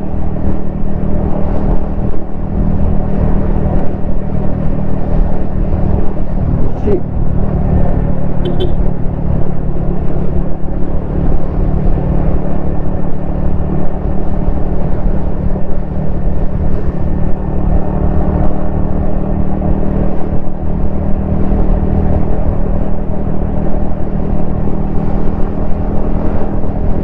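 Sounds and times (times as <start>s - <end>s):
low riding rumble: 0.0s - 27.0s
motorcycle engine cruising: 0.0s - 27.0s.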